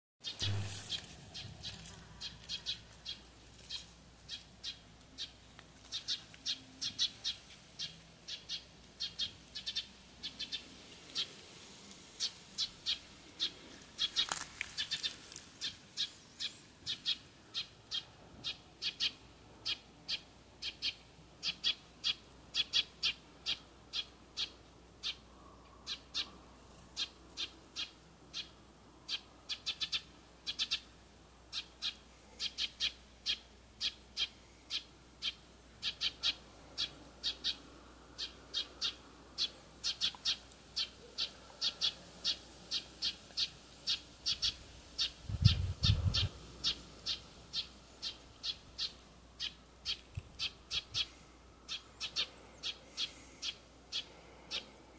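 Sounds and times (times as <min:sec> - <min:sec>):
bird chip calls: 0:00.2 - 0:10.6, 0:12.2 - 0:25.2, 0:31.5 - 0:37.6, 0:38.2 - 0:54.7.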